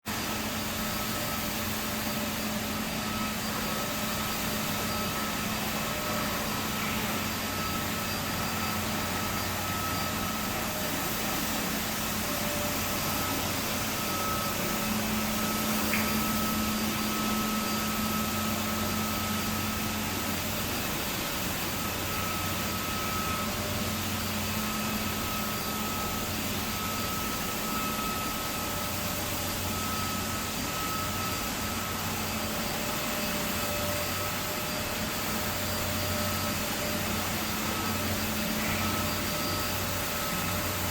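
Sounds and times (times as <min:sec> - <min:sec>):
floor scrubber humming and whirring: 0:00.0 - 0:40.9.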